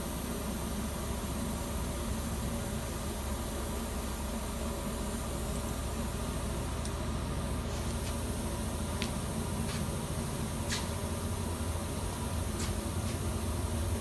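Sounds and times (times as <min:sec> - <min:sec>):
low buzzing hum: 0:00.0 - 0:14.0.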